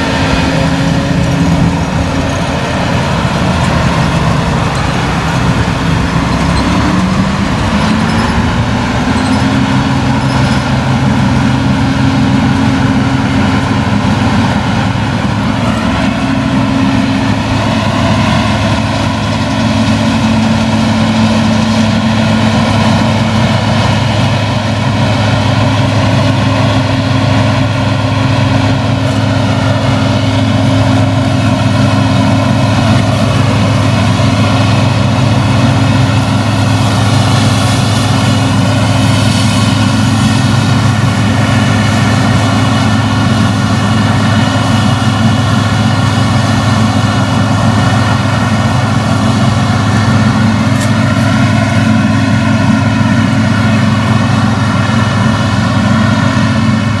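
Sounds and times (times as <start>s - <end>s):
combine harvester engine drone: 0.0s - 57.0s
threshing machinery hum: 0.0s - 57.0s.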